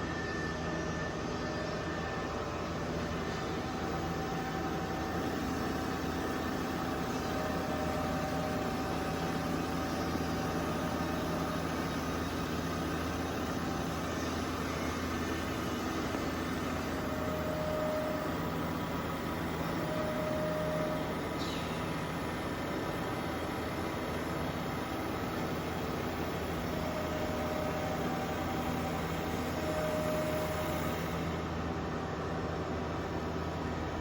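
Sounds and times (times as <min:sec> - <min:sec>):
wood lathe machine hum: 0:02.8 - 0:33.9.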